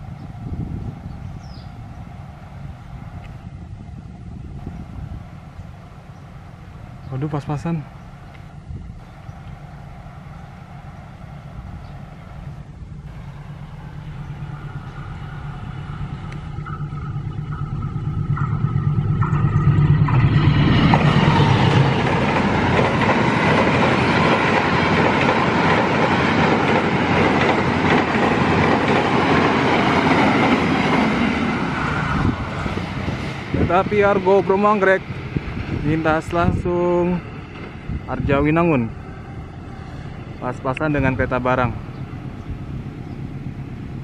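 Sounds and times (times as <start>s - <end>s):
diesel locomotive engine hum: 0.0s - 44.0s
train wheels on rails: 0.0s - 44.0s.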